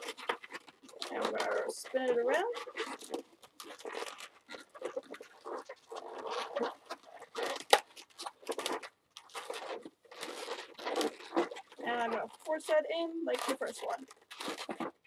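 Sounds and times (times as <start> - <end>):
balloons squeaking and rubbing: 0.0 - 15.0.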